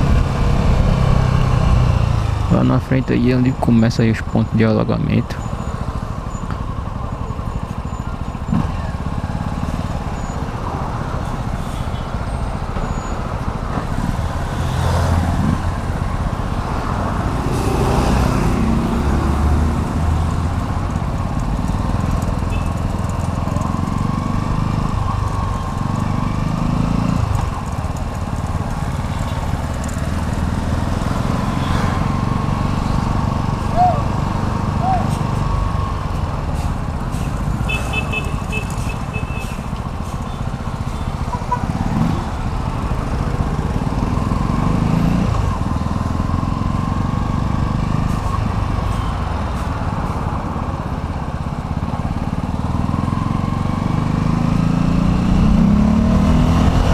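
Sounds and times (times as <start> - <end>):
road and wind noise: 0.0 - 56.9.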